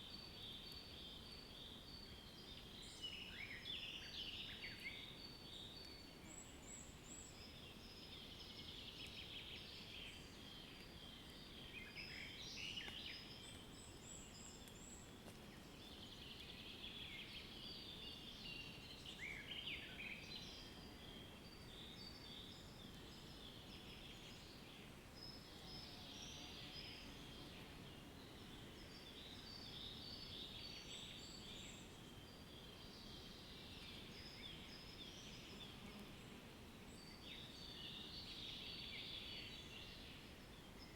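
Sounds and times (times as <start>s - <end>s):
low steady hiss: 0.0s - 40.9s.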